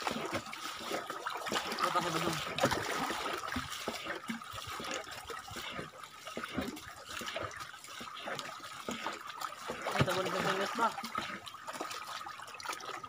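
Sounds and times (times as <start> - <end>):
small waves lapping shore: 0.0 - 13.0
water splashing against canoe hull: 0.0 - 13.0.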